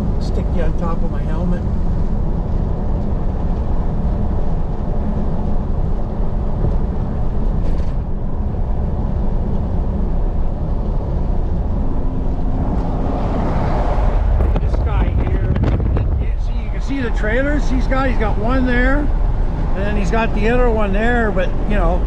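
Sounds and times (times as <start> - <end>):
vehicle driving on road: 0.0 - 22.0.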